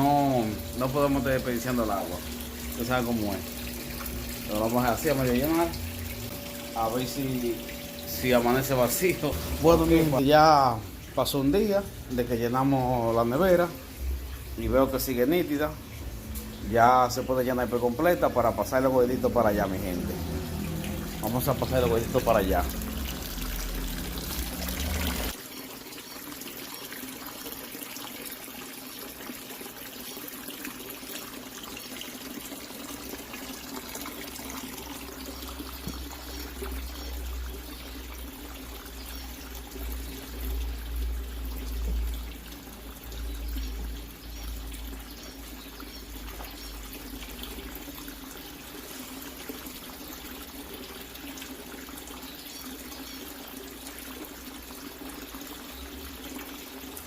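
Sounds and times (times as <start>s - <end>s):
water running into a tank: 0.0s - 57.0s.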